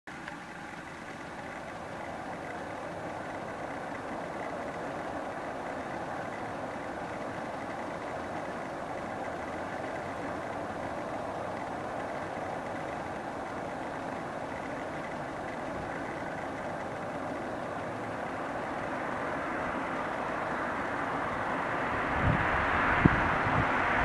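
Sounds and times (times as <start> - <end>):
distant jet engines roaring: 0.1 - 24.0
faint high whine: 0.1 - 24.0.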